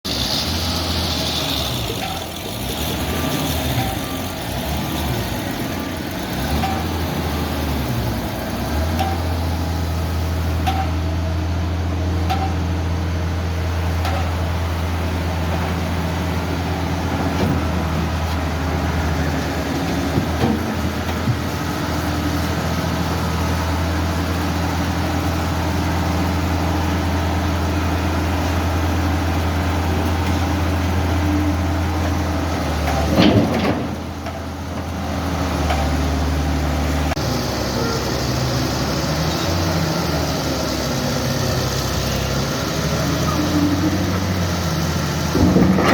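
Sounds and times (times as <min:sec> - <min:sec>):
excavator diesel engine droning: 0:00.0 - 0:45.9.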